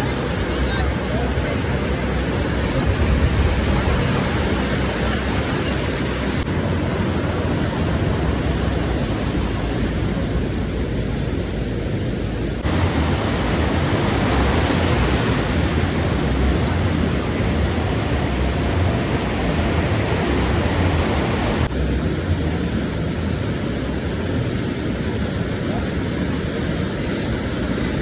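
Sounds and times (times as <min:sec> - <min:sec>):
ocean surf rushing: 0:00.0 - 0:28.0.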